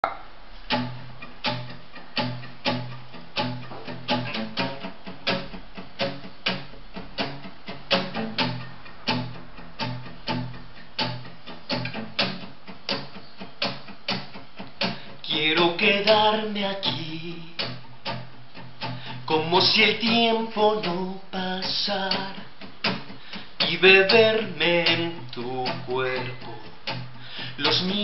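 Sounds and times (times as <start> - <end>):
classical guitar strummed chords: 0.0 - 28.0.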